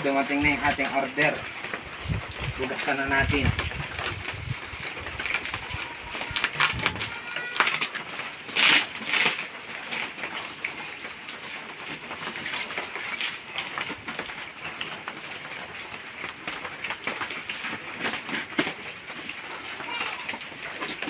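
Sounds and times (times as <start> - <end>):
plastic wrapping rustling and tearing: 0.0 - 21.0.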